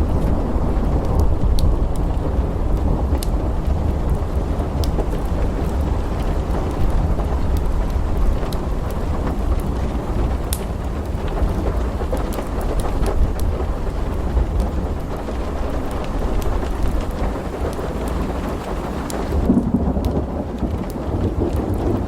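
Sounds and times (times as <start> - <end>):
low rumble of thunder: 0.0 - 22.0
steady rain: 0.0 - 22.0
wood fire crackling: 0.0 - 22.0.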